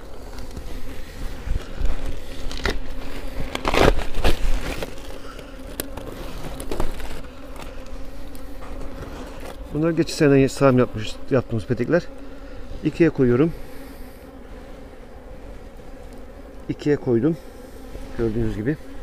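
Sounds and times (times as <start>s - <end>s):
hive frames knocking and rustling: 0.0s - 19.0s
honeybees buzzing: 0.0s - 19.0s.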